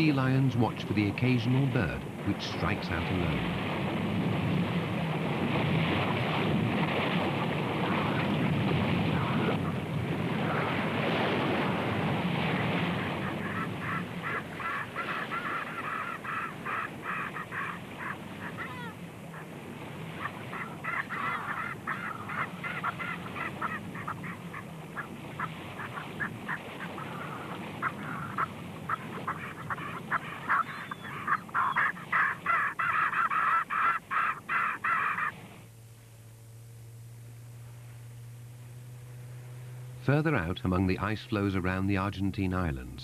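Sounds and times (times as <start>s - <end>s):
seabirds calling: 0.0s - 43.0s
surf splashing: 0.0s - 43.0s.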